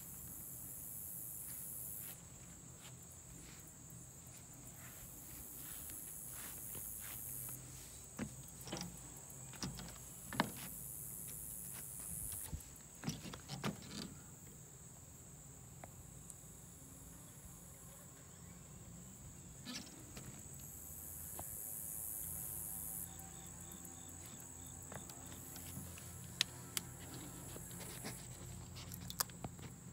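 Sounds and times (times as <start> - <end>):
insects buzzing: 0.0 - 29.9.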